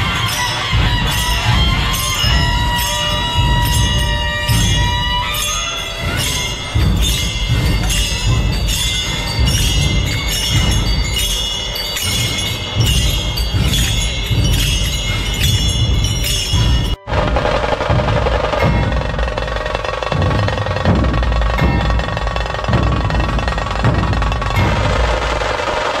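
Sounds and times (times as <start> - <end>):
brass hand cymbals clashing: 0.0 - 26.0.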